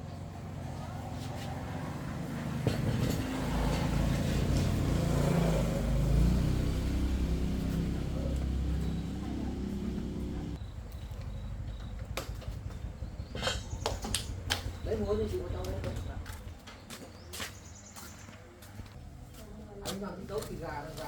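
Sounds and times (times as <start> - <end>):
vehicle engine rumbling: 0.0 - 17.3.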